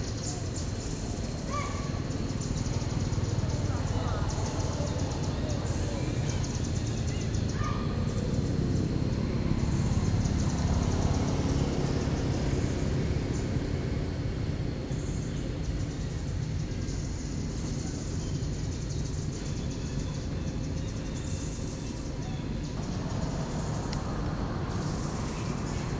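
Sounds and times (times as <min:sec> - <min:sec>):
high pulsing buzz: 0:00.0 - 0:25.9
steady low rumble: 0:02.0 - 0:25.9.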